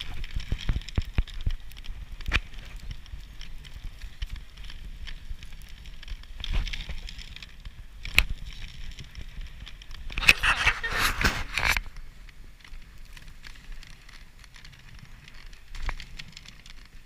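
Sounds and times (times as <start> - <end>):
sled runners scraping snow: 0.0 - 17.0.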